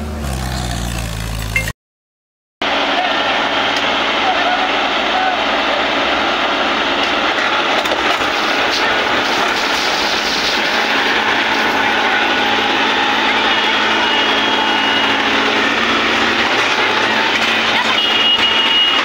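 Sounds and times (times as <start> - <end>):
tractor diesel engines under load: 0.0 - 1.7, 2.6 - 19.0.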